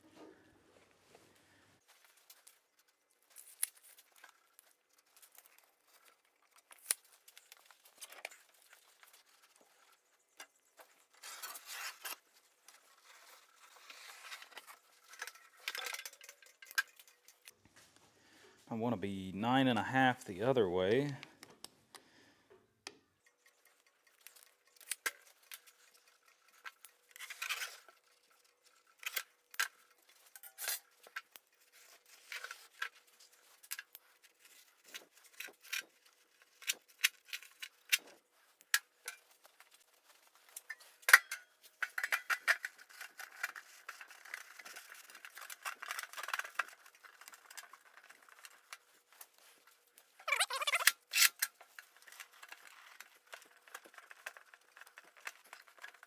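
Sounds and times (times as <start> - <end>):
rustling and scraping: 0.0 - 18.6, 23.2 - 56.0.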